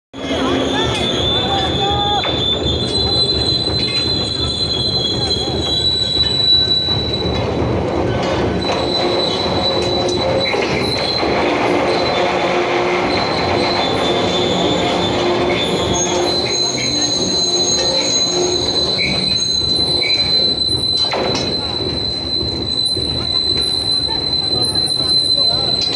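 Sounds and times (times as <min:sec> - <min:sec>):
metallic wheel squeal: 0:00.2 - 0:25.9
train rumbling on rails: 0:00.2 - 0:25.9.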